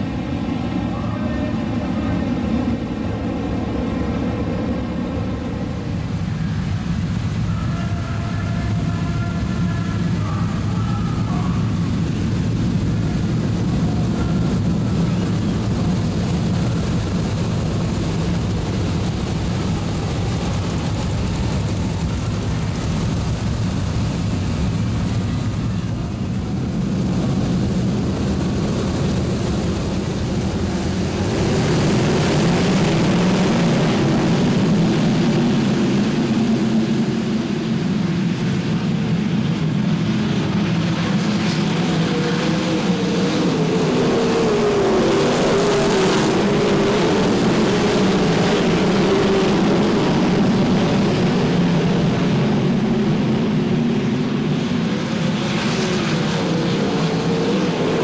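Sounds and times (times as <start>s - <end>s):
racing car engines droning: 0.0s - 58.0s.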